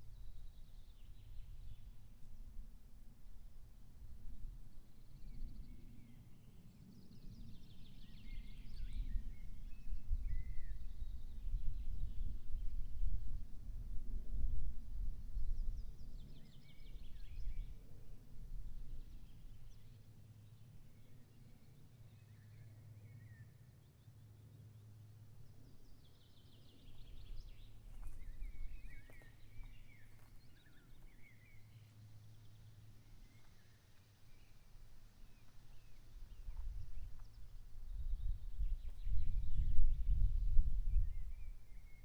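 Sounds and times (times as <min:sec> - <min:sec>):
songbirds singing: 0:00.0 - 0:02.6, 0:04.6 - 0:13.1, 0:15.2 - 0:42.0.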